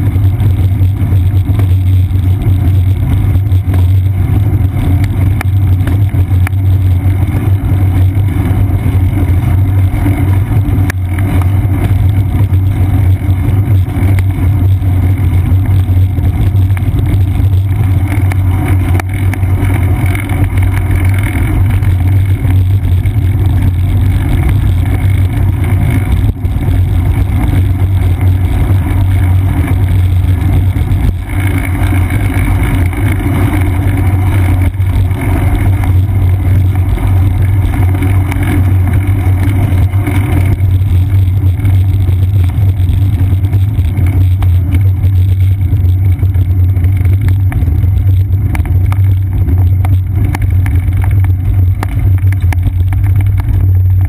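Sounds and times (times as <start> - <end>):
bicycle tyres on asphalt: 0.0 - 54.0
wind rumble: 0.0 - 54.0.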